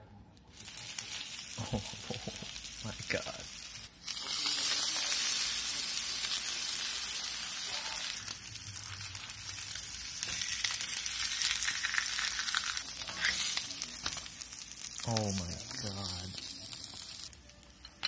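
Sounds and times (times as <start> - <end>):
pizza sizzling in a pan: 0.5 - 17.8.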